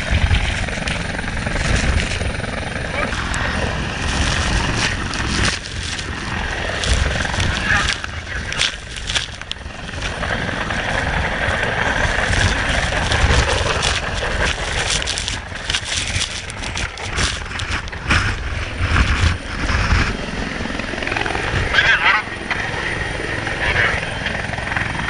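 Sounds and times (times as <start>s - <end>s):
helicopter engine and rotor: 0.0s - 25.0s
wind buffeting microphone: 0.0s - 25.0s.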